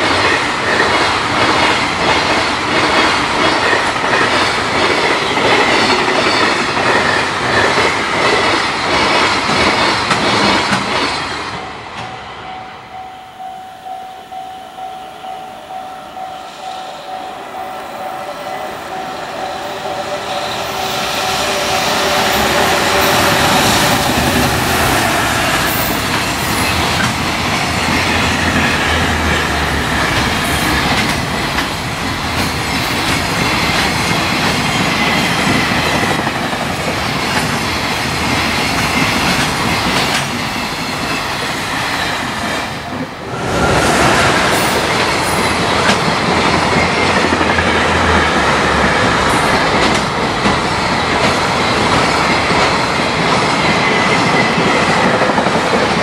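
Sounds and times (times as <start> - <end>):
freight train rumble: 0.0 - 56.0.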